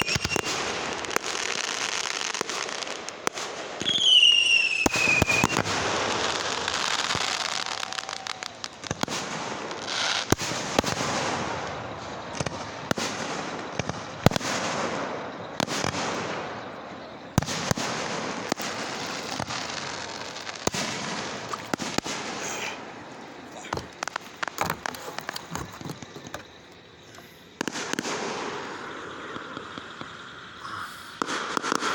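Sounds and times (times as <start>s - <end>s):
fireworks sharp bangs: 0.0s - 26.8s, 27.4s - 31.9s
fireworks crackling: 0.0s - 31.9s.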